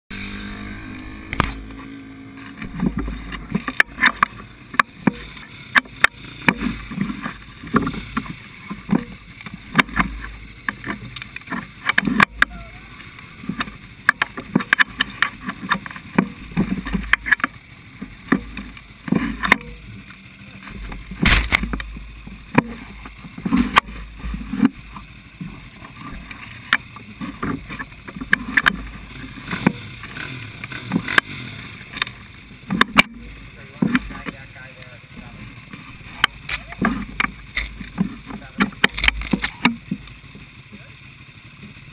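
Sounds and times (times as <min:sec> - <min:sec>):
muffled quad engine rumble: 0:00.1 - 0:41.9
knocks and clicks: 0:01.2 - 0:12.6, 0:13.4 - 0:34.5, 0:35.2 - 0:40.1.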